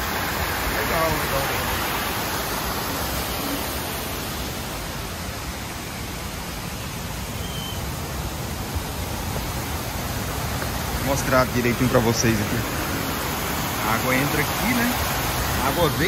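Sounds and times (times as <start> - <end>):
water rushing through water wheel: 0.0 - 16.0.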